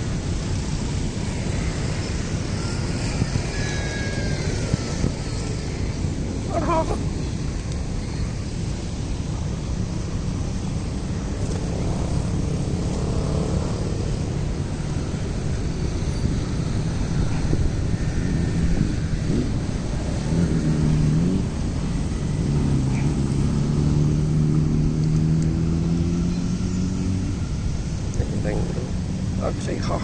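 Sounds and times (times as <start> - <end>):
passing vehicle engines droning: 0.0 - 30.0
street traffic rumble: 0.0 - 30.0.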